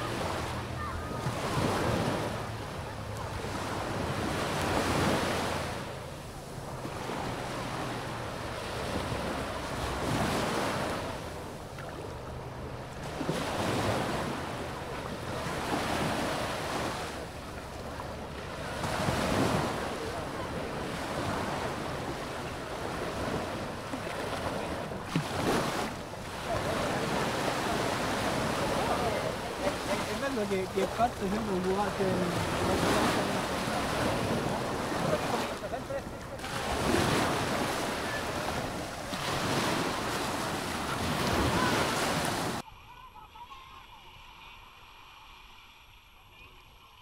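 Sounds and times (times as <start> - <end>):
waves breaking on beach: 0.0 - 47.0.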